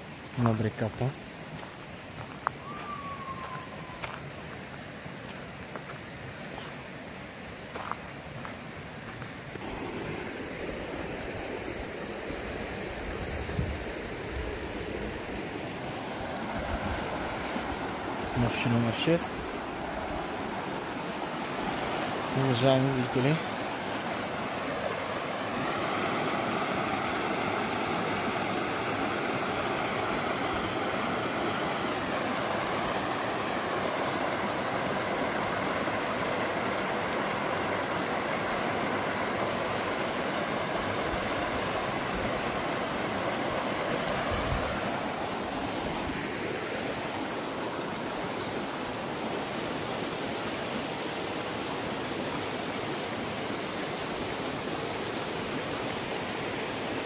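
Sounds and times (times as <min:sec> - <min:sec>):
river rushing over rocks: 0:01.2 - 0:57.0.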